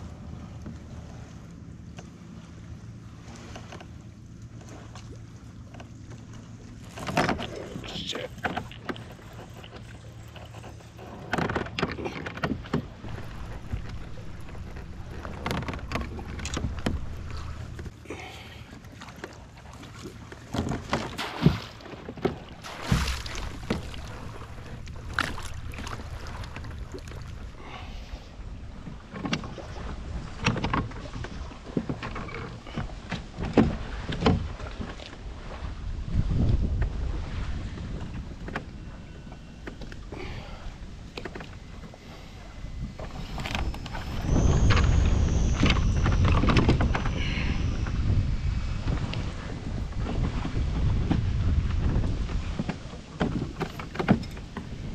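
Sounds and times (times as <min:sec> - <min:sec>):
low steady hum: 0:00.0 - 0:54.9
water knocking and splashing on hull: 0:00.1 - 0:54.9.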